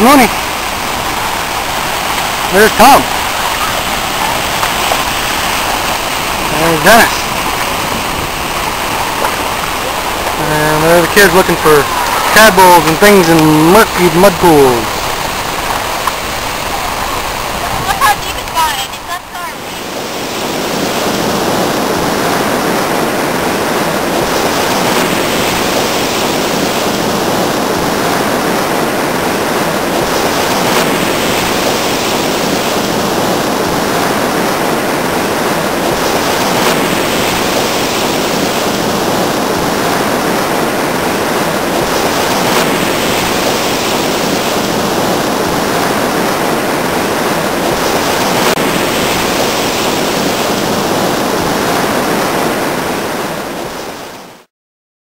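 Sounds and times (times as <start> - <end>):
water rushing: 0.0 - 54.5.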